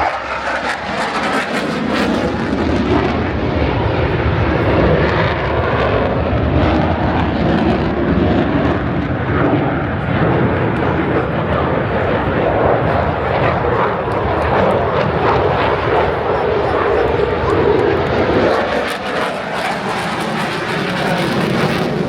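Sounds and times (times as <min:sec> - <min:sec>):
jet engine flying over: 0:00.0 - 0:22.0.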